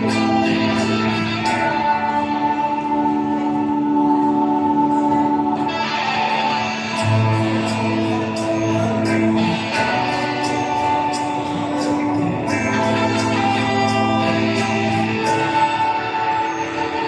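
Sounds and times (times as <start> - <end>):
guitar sustained notes: 0.0 - 17.0.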